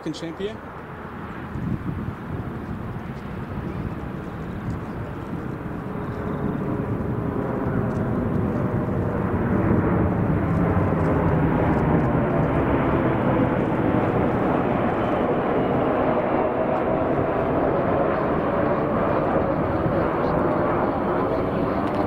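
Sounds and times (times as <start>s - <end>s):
jet engines passing overhead: 0.0s - 22.0s.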